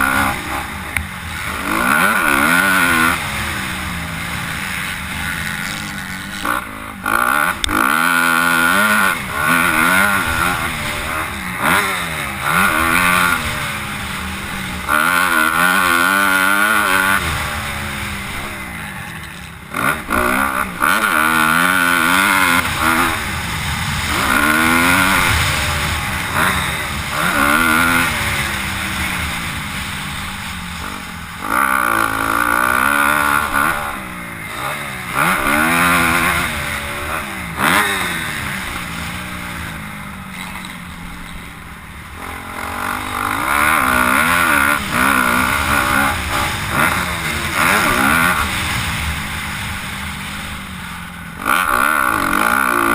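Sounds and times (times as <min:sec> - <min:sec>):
motocross bikes revving: 0:00.0 - 0:52.9.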